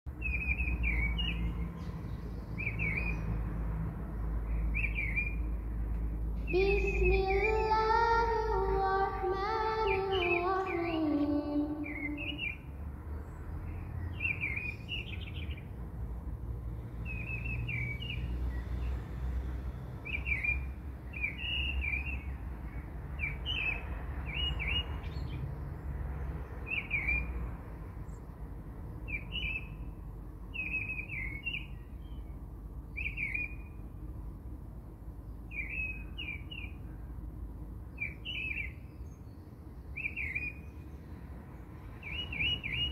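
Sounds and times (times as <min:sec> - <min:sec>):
songbird chirping: 0:00.1 - 0:15.8, 0:16.9 - 0:19.3, 0:20.0 - 0:33.9, 0:35.1 - 0:37.3, 0:37.9 - 0:42.9.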